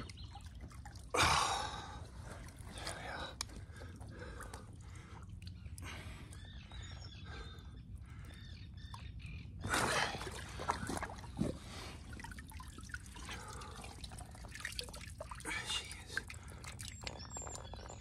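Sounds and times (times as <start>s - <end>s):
water trickling and dripping: 0.0s - 6.4s, 10.0s - 18.0s.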